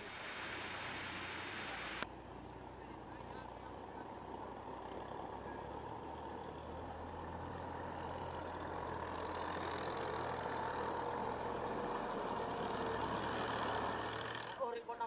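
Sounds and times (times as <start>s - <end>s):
engine humming: 0.0s - 14.7s.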